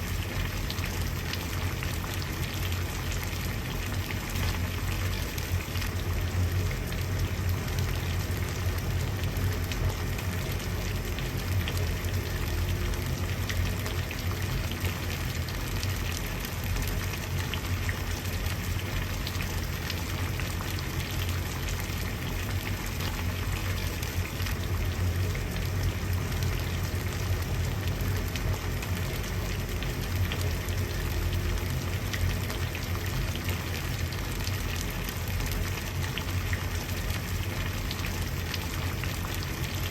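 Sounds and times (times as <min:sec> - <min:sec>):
water boiling and bubbling: 0:00.0 - 0:39.9.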